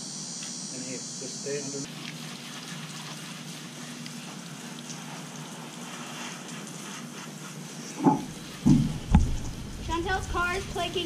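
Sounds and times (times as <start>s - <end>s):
water spraying hiss: 0.0s - 11.0s.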